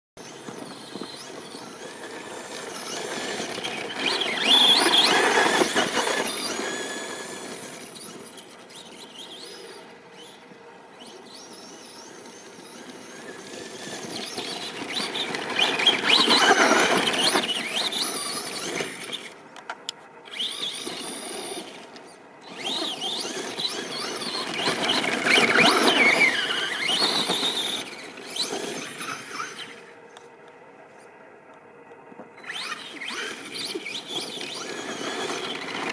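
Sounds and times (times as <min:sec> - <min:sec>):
electric motor whining: 0:00.2 - 0:19.4, 0:20.3 - 0:30.0, 0:32.4 - 0:35.9.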